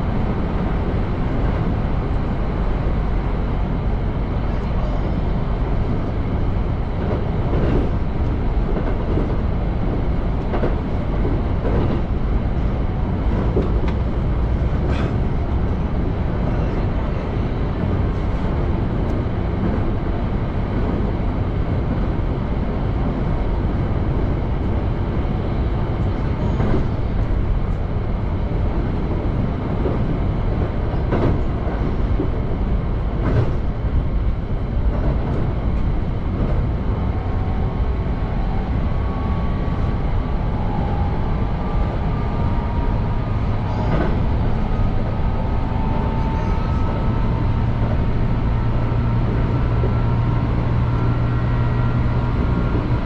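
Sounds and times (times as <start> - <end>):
rumble of train wheels on rail: 0.0 - 53.0.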